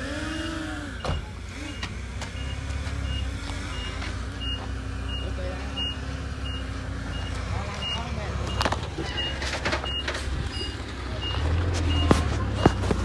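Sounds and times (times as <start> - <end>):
low engine running: 0.0 - 13.0
reversing alarm beeping: 0.2 - 13.0.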